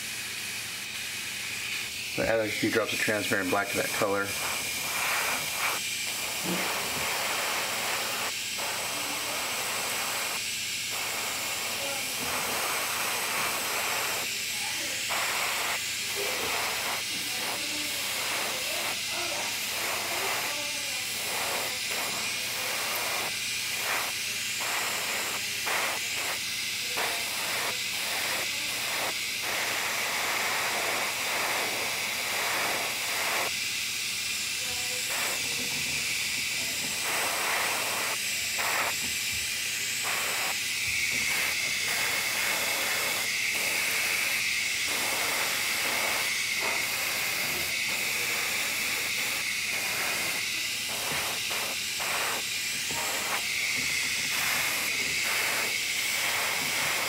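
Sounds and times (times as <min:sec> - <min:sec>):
airbrush spraying hiss: 0:00.0 - 0:57.0.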